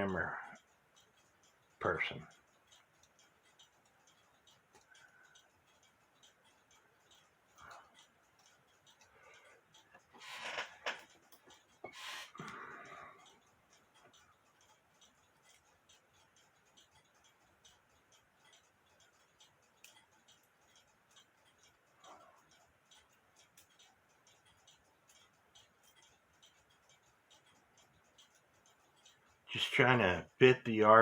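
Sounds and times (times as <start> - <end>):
clock ticking faintly: 0.0 - 31.0.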